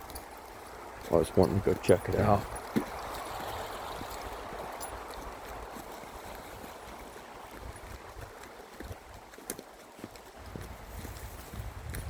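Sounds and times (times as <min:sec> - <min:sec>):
river water rushing: 0:00.0 - 0:11.9.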